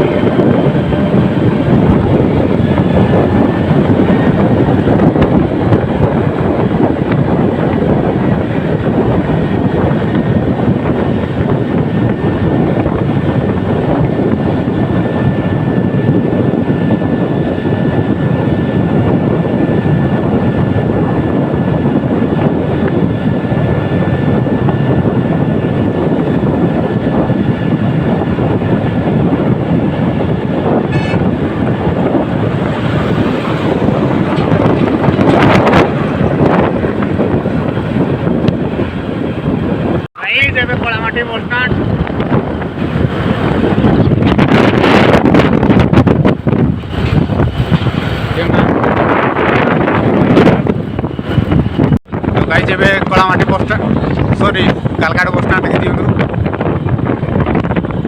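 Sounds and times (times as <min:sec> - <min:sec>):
vehicle engine and road rush: 0:00.0 - 0:58.0.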